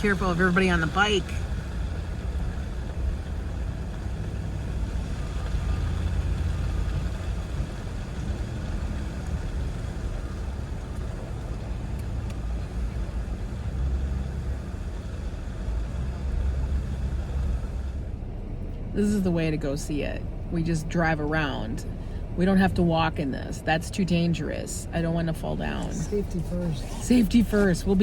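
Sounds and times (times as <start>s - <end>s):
road and engine rumble: 0.0s - 28.0s.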